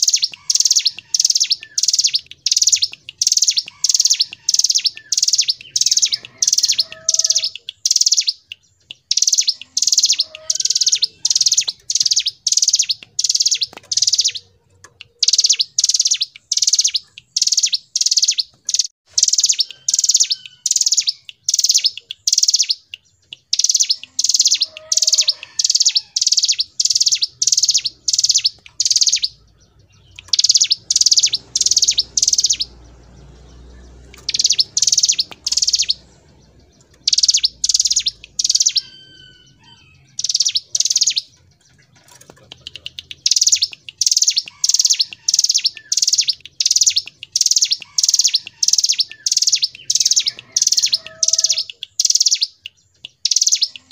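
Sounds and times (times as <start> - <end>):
bird singing high repeated notes: 0.0 - 41.8, 42.6 - 53.9.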